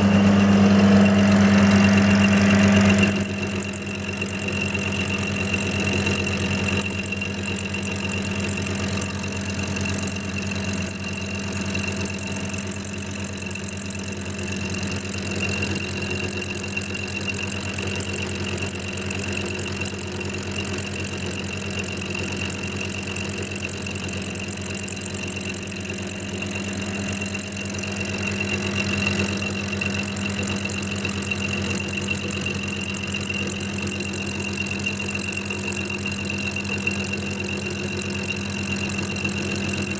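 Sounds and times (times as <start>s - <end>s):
cutter pulsing through steel: 0.0s - 39.9s
milling machine motor hum and whine: 0.0s - 39.9s.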